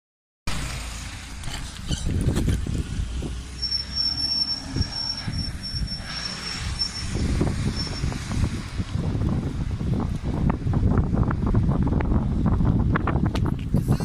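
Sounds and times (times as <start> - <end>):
bicycle road rumble: 0.5 - 14.0
wind buffeting microphone: 1.3 - 3.8, 4.6 - 14.0.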